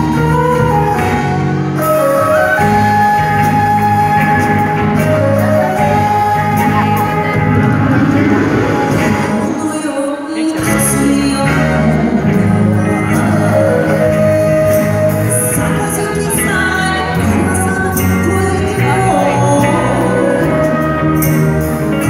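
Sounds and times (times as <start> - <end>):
woman singing into microphone: 0.0 - 21.8
drums and percussion: 0.0 - 22.0
live band music: 0.0 - 22.0.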